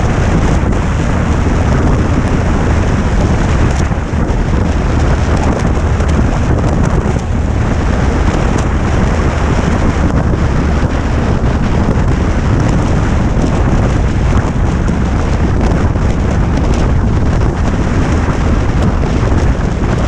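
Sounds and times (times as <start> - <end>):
motorcycle engine: 0.0 - 20.0
road noise: 0.0 - 20.0
wind rushing over microphone: 0.0 - 20.0.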